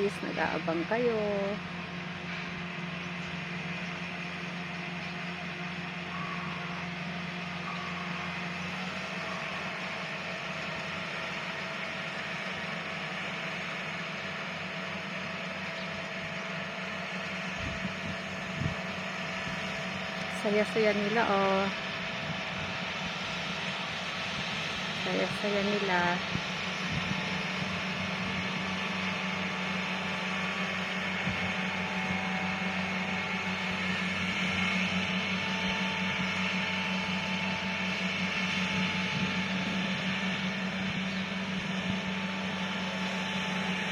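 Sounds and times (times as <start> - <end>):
engine droning: 0.0 - 43.9.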